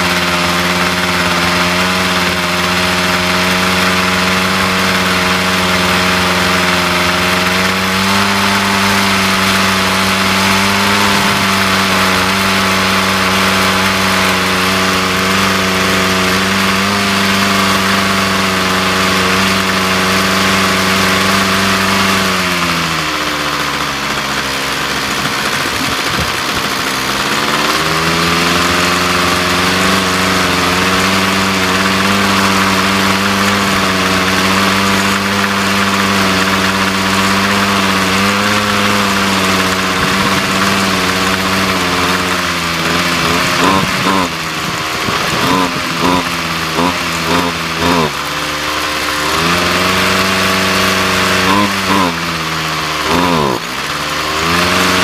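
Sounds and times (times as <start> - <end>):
strimmer engine idling: 0.0 - 55.0.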